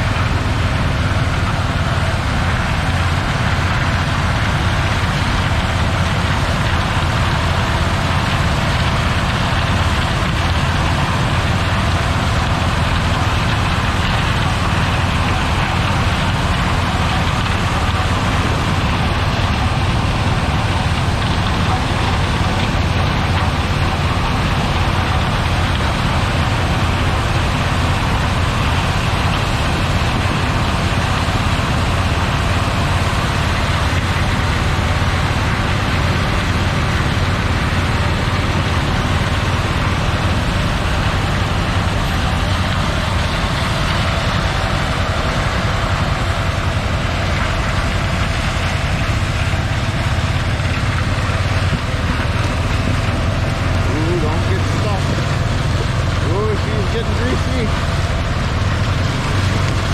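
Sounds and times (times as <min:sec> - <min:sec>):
diesel farm machinery running: 0:00.0 - 0:59.9.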